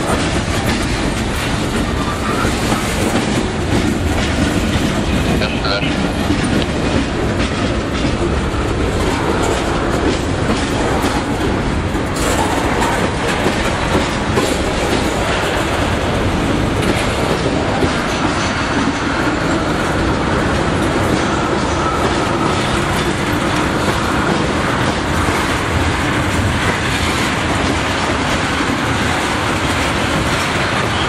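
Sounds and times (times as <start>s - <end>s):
train wheels clacking over rail joints: 0.0s - 31.0s.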